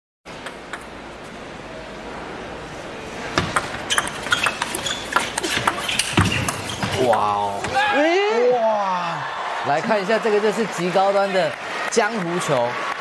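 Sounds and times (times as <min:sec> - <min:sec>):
arena background noise: 0:00.3 - 0:13.0.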